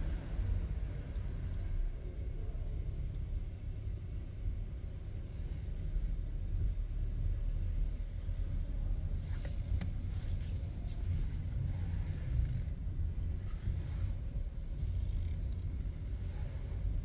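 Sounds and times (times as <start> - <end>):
car driving slowly: 0.0 - 17.0.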